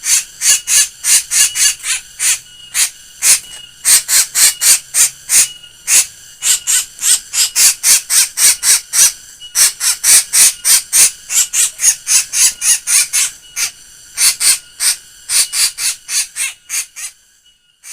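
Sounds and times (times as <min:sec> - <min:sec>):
bird harsh laughing calls: 0:00.0 - 0:17.2.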